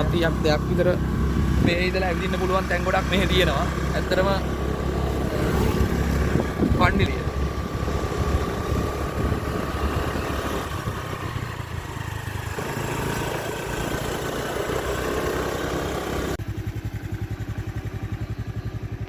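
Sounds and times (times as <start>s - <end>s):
road and wind noise: 0.0s - 19.0s
vehicle engine running: 0.0s - 19.0s.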